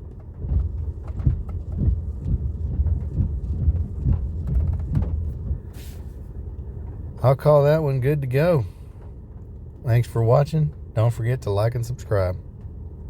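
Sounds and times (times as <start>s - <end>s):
truck engine rumble: 0.0s - 13.0s
windshield wipers sweeping: 0.0s - 13.0s.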